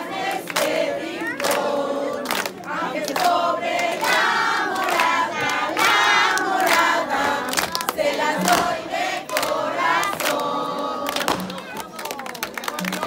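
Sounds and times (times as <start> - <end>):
crowd singing together: 0.0 - 13.0.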